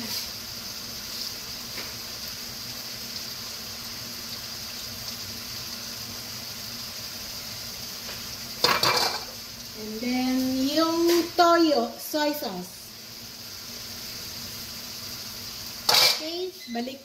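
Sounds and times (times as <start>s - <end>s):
tofu and vegetables sizzling: 0.0s - 17.0s.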